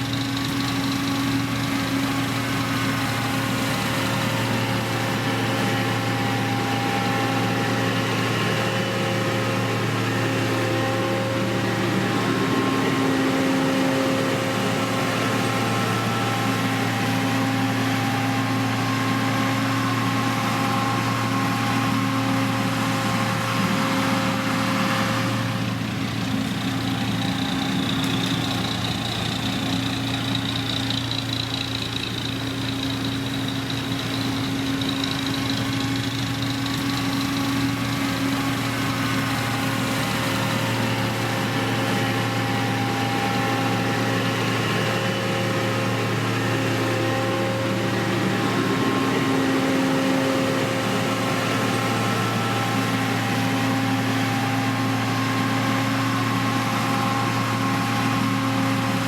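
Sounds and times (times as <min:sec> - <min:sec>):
heavy machinery diesel engine running: 0:00.0 - 0:59.0.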